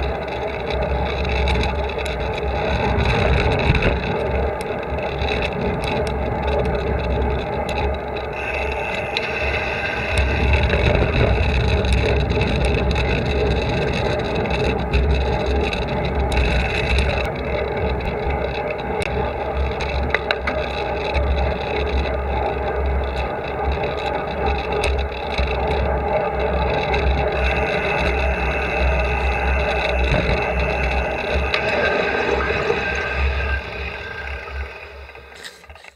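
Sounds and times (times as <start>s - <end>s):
handlebar rattles and clicks: 0.0s - 33.0s, 35.0s - 35.9s
wind buffeting: 0.0s - 35.4s
road rumble: 0.0s - 35.9s
tyres humming on asphalt: 0.0s - 35.9s.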